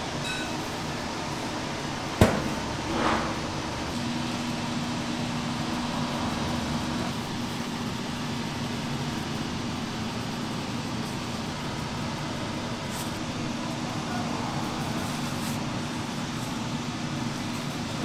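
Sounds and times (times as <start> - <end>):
ventilation fan humming: 0.0 - 18.0.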